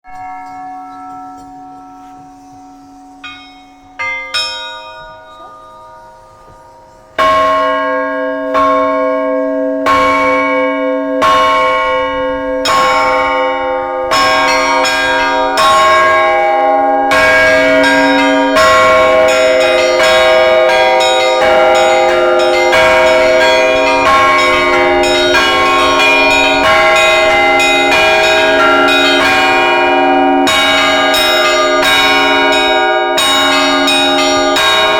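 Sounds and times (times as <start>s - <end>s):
big bell striking: 0.0s - 34.9s
small bells striking: 0.1s - 34.9s.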